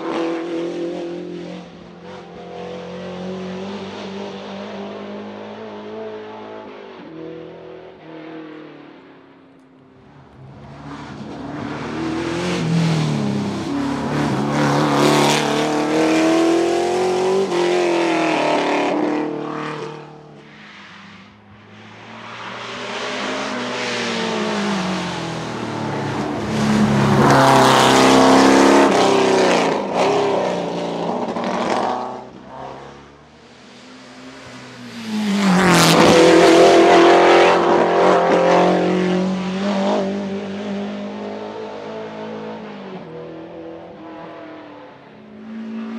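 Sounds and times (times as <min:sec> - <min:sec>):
race car accelerating: 0:00.0 - 0:45.9.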